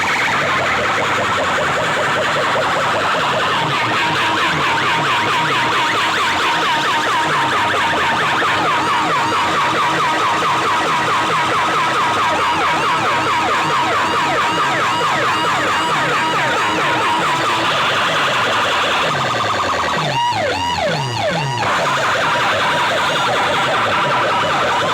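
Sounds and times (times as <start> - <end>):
electronic siren effect: 0.0 - 24.9.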